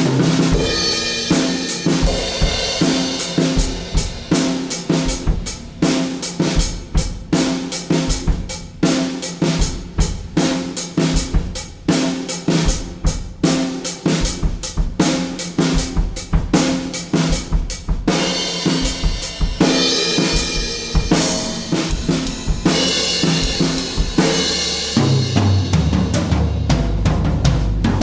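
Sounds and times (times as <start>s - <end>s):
drum kit groove: 0.0s - 28.0s.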